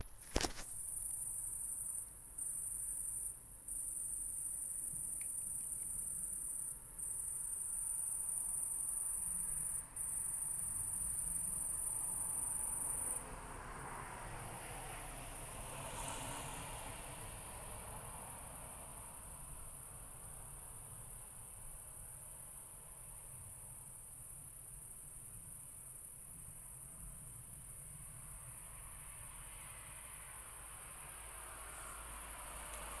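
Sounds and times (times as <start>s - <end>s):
crickets chirring: 0.1s - 13.2s, 17.0s - 33.0s.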